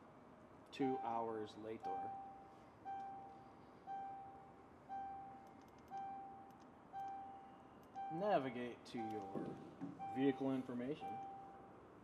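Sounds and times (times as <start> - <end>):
vehicle warning chime: 0.8 - 11.8.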